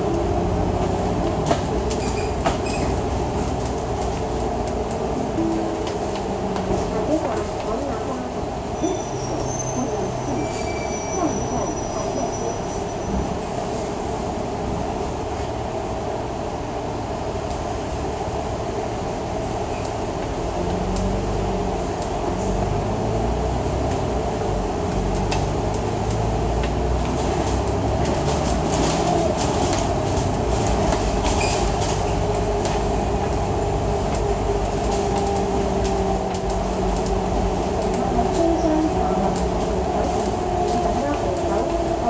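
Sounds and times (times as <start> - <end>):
bus engine and road rumble: 0.0 - 42.0.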